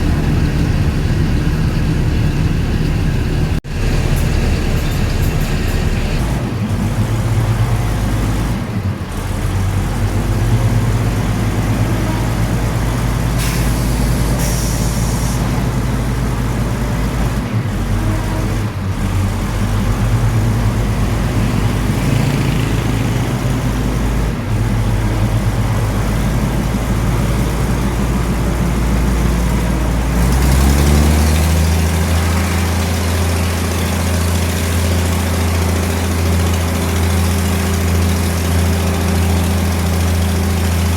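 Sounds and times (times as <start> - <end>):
train diesel engine running: 0.0 - 40.9
train ride rumble: 0.0 - 40.9.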